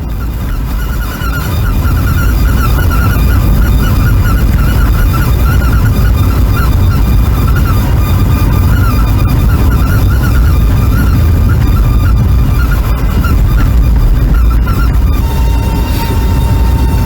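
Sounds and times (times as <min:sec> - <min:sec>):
rapid high-pitched squeak: 0:00.0 - 0:17.0
road and engine noise: 0:00.0 - 0:17.0.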